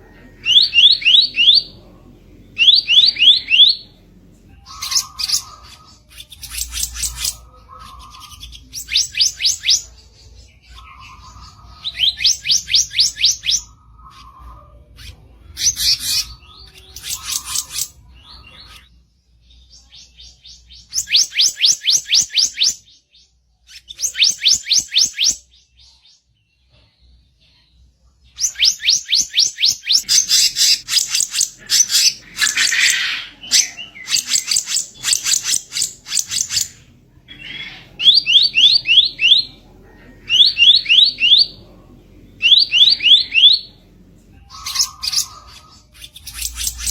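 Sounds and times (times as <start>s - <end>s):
bird singing harsh trills: 0.3s - 1.8s, 2.4s - 26.3s, 28.3s - 46.9s.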